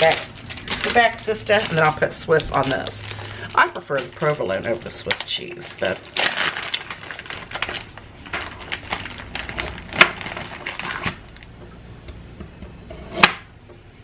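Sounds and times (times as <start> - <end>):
plastic package crinkling: 0.0 - 11.6.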